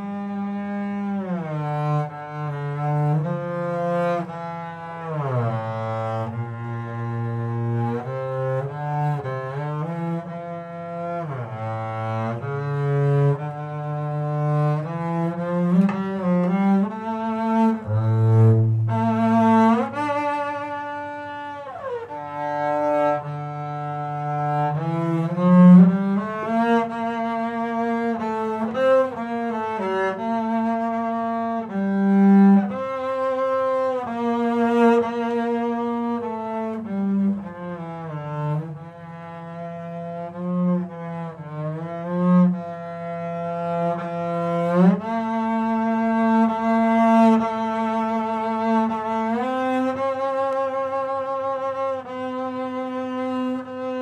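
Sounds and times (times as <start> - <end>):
bowed double bass melody: 0.0 - 54.0.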